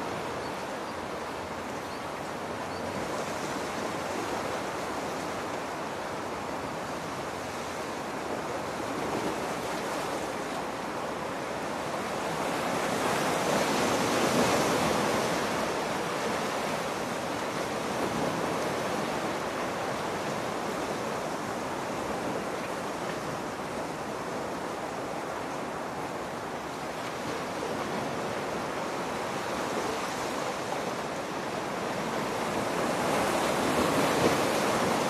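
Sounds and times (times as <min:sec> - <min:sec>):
sea waves washing onto shore: 0:00.0 - 0:35.0.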